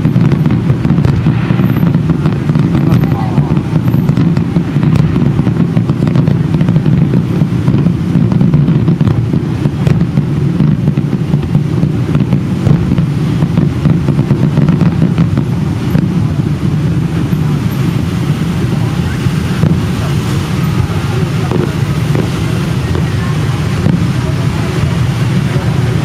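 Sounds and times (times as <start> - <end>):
fireworks cracks and crackles: 0.0 - 26.0
rumble of fireworks booms: 0.0 - 26.0.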